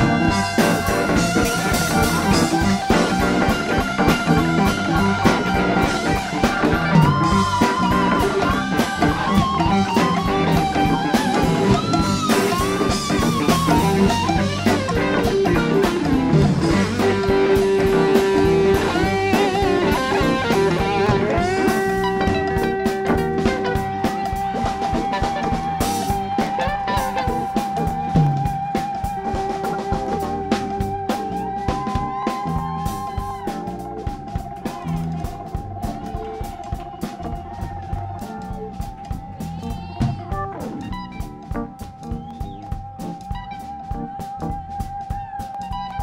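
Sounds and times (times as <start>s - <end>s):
drum kit and bass: 0.0s - 46.0s
electric guitar solo: 0.0s - 46.0s.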